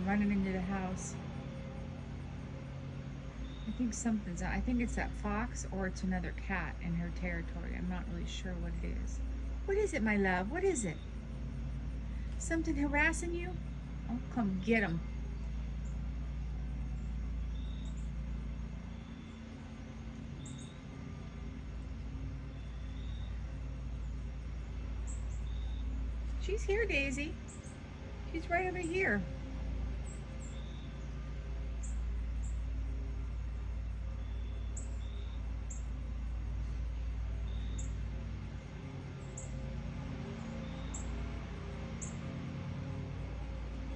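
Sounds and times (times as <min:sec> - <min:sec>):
air-conditioning unit humming: 0:00.0 - 0:43.9
birds chirping: 0:00.0 - 0:43.9.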